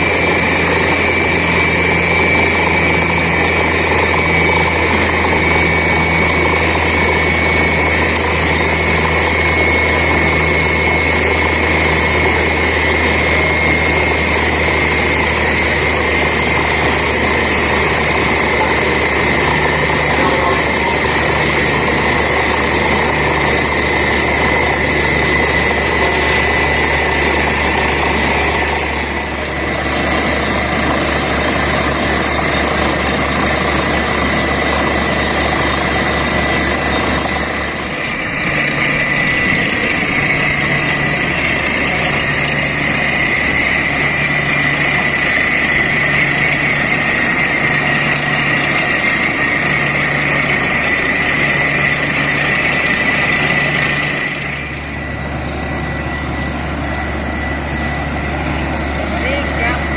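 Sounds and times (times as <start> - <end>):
high machine whine: 0.0 - 59.9
low engine hum: 0.0 - 59.9.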